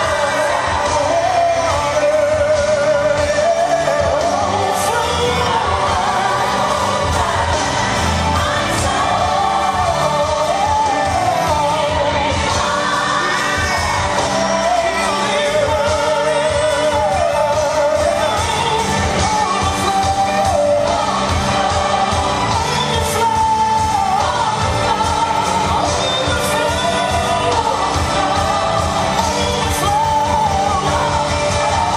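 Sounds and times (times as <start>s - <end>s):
full band with steady beat: 0.0s - 31.9s
person singing with vibrato: 0.0s - 31.9s.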